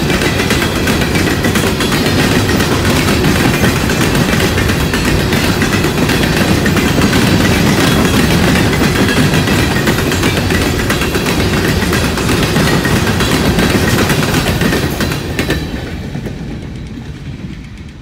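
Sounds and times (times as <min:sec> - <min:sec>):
train cars rumbling past: 0:00.0 - 0:18.0
wheel clicks over rail joints: 0:00.0 - 0:18.0.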